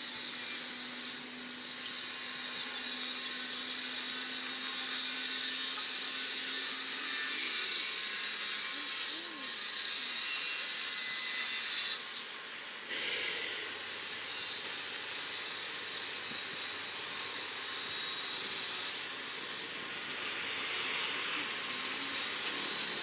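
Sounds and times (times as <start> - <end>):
train moving slowly: 0.0 - 23.0.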